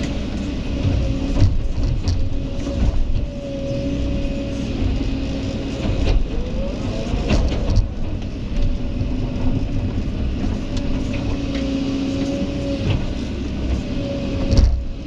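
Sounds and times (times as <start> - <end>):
diesel engine running: 0.0 - 15.0
hydraulic whine: 0.0 - 15.0.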